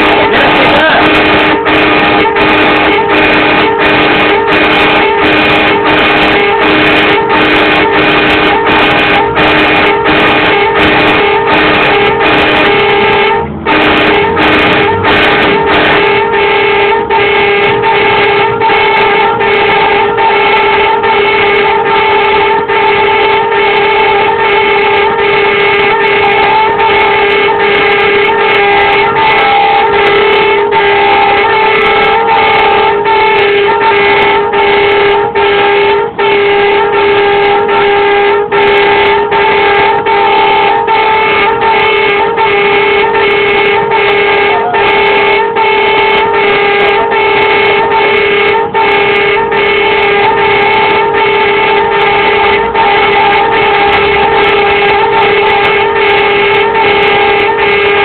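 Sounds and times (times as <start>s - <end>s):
pulsing warning siren: 0.0s - 58.0s.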